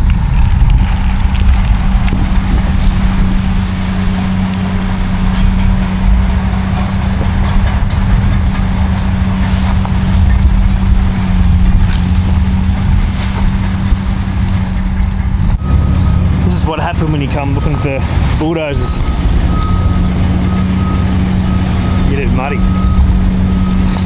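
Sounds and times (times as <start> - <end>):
bulldozer diesel engine drone: 0.0 - 24.0.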